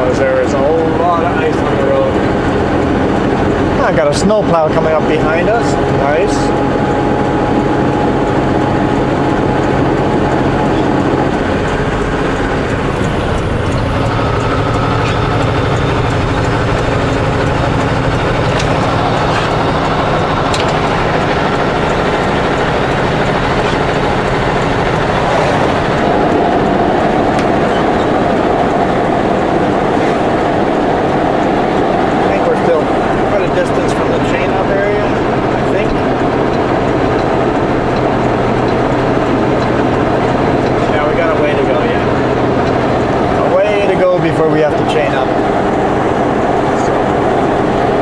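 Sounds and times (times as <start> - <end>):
truck engine from inside cab: 0.0 - 48.0.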